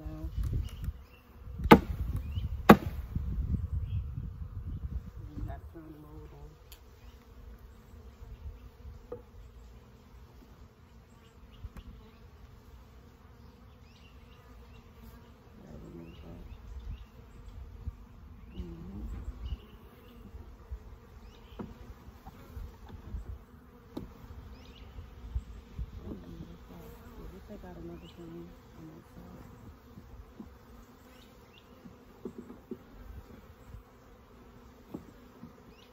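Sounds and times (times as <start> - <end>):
bees humming: 0.0 - 35.9.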